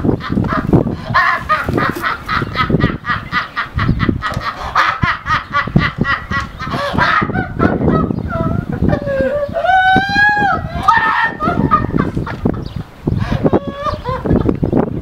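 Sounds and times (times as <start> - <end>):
man laughing uncontrollably: 0.0 - 14.5.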